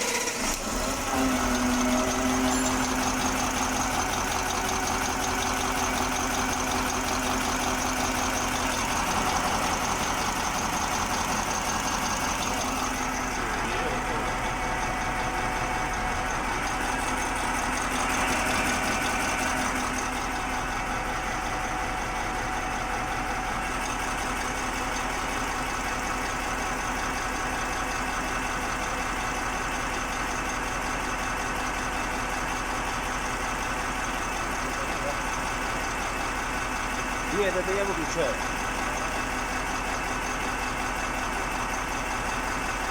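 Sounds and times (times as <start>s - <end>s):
fuel injector knocking: 0.0s - 42.9s
truck diesel engine idling: 0.0s - 42.9s.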